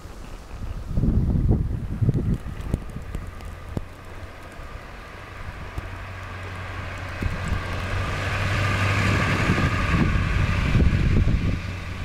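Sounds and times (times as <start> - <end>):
wind rumbling on microphone: 0.0 - 12.0
vehicle driving past on snow: 1.9 - 12.0.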